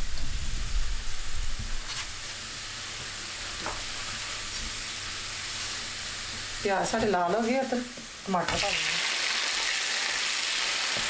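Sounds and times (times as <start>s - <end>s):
vegetables sizzling in ghee: 0.0s - 11.0s.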